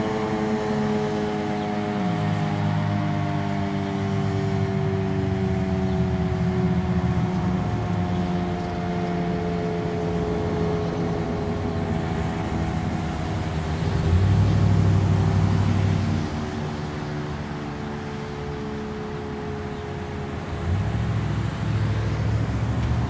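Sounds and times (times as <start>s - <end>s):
warning siren winding down: 0.0s - 23.0s.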